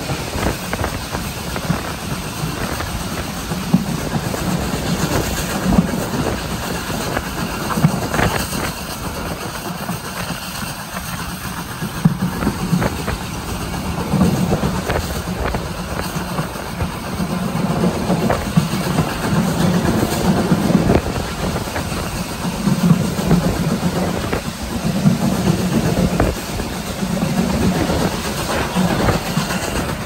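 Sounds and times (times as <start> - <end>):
steam train rumble: 0.0 - 30.0
wheels clicking over rail joints: 0.0 - 30.0.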